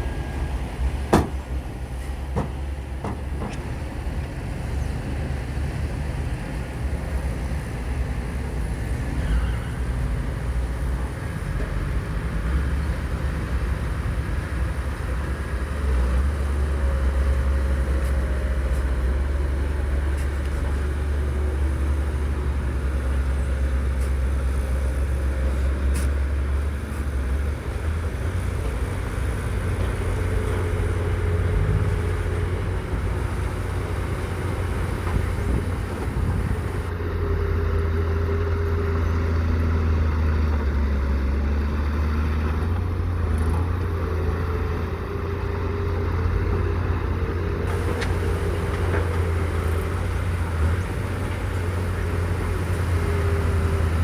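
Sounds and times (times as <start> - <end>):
heavy machinery engines rumbling: 0.0 - 54.0.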